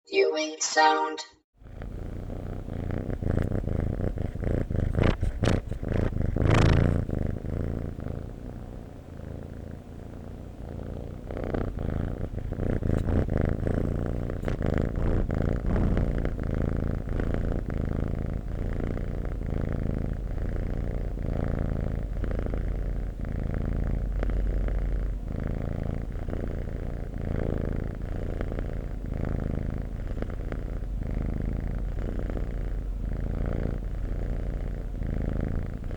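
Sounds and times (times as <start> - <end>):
cat purring: 1.6 - 35.9.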